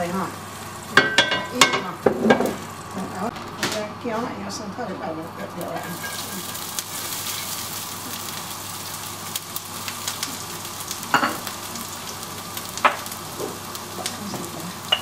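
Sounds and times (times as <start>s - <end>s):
garlic sizzling in hot oil: 0.0s - 3.9s, 4.7s - 15.0s.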